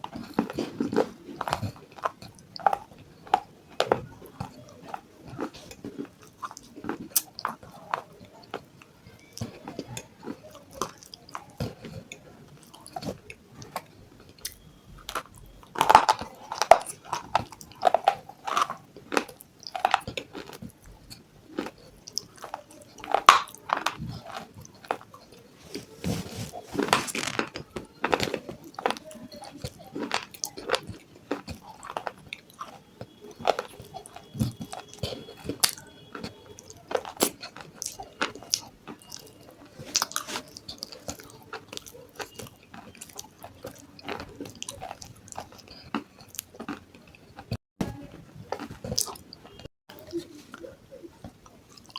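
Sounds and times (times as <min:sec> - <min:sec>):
grinding chewing: 0:00.0 - 0:51.9.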